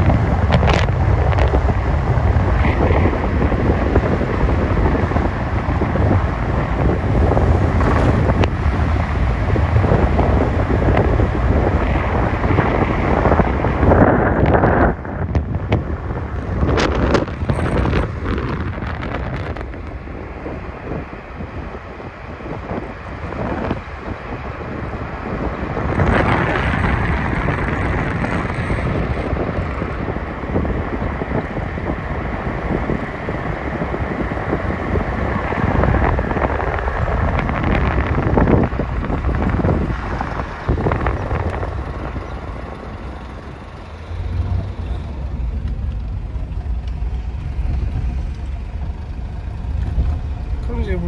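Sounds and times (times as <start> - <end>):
vehicle road noise: 0.0 - 51.0
wind buffeting microphone: 0.0 - 51.0.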